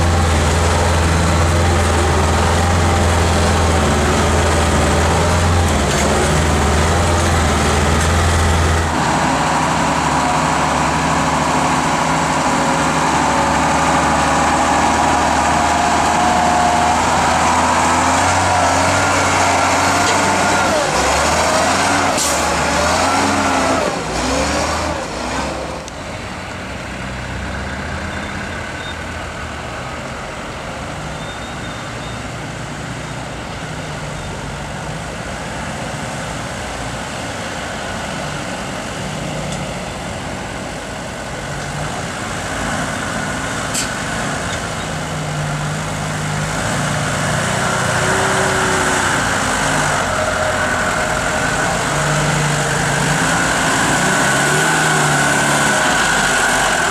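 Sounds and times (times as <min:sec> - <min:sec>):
diesel truck engines running: 0:00.0 - 0:56.9.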